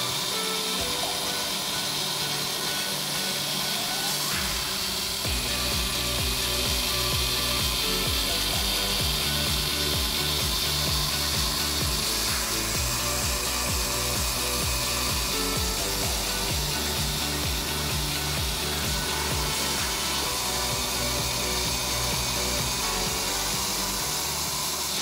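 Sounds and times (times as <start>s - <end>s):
engraving tool hiss and chatter: 0.0s - 25.0s
stepper motors humming: 0.0s - 25.0s.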